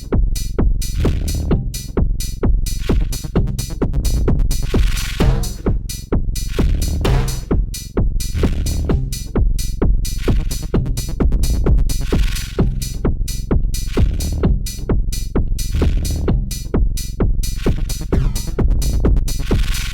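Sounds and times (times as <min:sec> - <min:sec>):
drum machine beat: 0:00.0 - 0:19.9
heavy bass line: 0:00.0 - 0:19.9.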